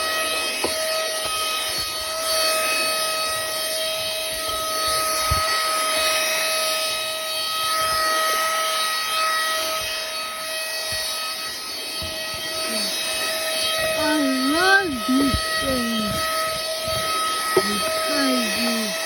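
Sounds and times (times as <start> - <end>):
handheld vacuum cleaner whine: 0.0 - 19.0.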